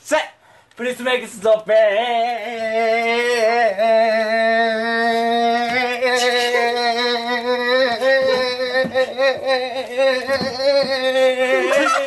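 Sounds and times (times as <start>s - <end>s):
man singing a long vowel: 1.4s - 12.0s.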